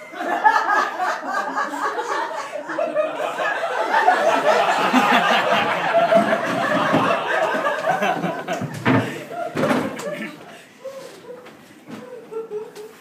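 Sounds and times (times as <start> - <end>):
audience laughing: 0.0 - 10.6.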